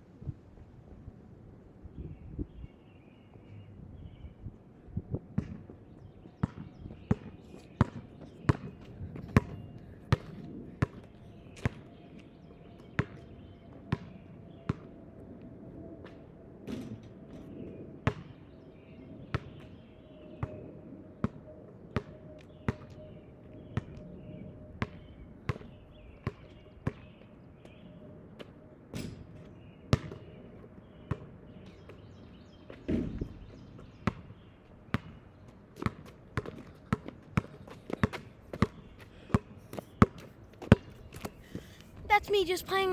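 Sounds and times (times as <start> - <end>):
basketball bouncing on asphalt: 5.2 - 15.0, 16.0 - 41.6.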